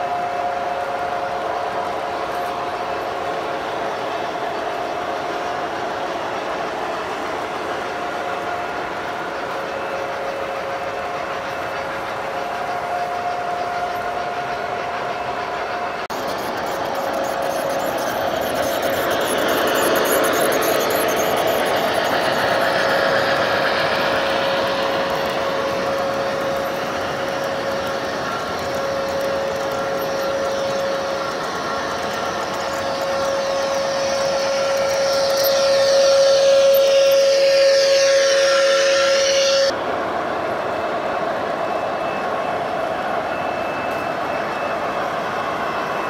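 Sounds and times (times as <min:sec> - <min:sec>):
model train motor whine: 0:00.0 - 0:39.8
wheels rumbling on track: 0:00.0 - 0:46.0.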